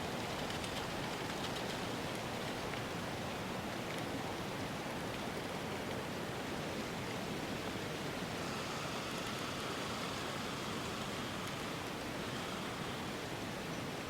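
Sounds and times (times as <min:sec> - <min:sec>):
steady ambient hiss: 0:00.0 - 0:14.0.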